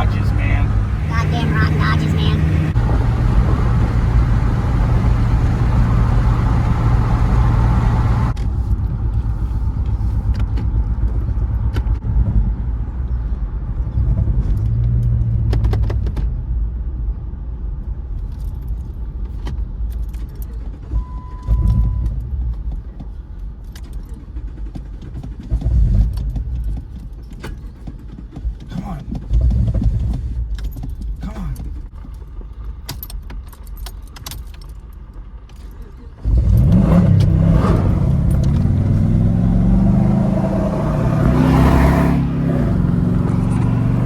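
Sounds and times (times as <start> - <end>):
engine and road rumble: 0.0 - 44.0.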